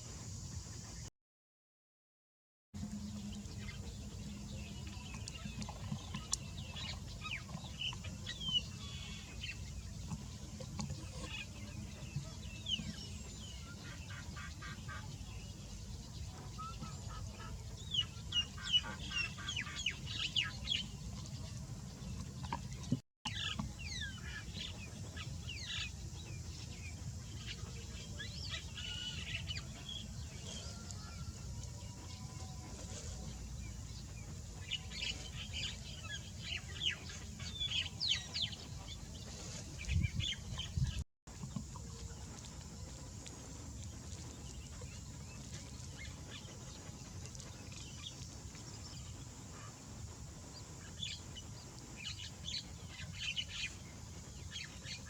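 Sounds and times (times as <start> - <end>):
birds chirping: 2.8 - 55.0.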